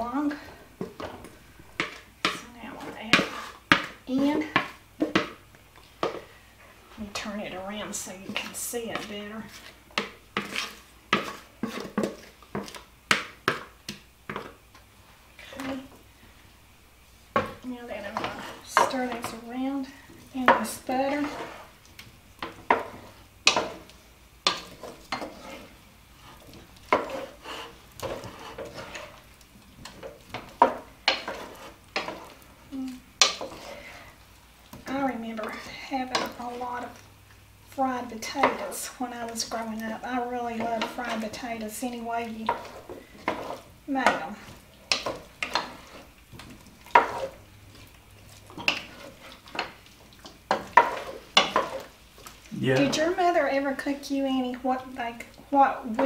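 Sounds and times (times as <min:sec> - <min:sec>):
wooden spoon scraping a pot: 0:00.0 - 0:16.5, 0:17.3 - 0:37.1, 0:37.7 - 0:56.0.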